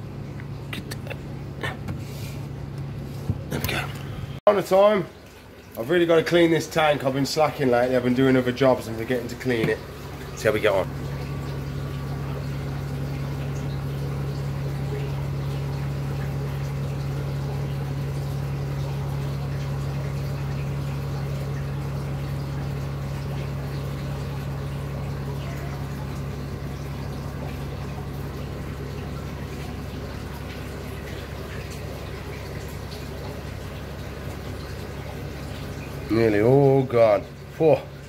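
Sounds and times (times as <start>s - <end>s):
aquarium pump humming: 0.0s - 38.0s.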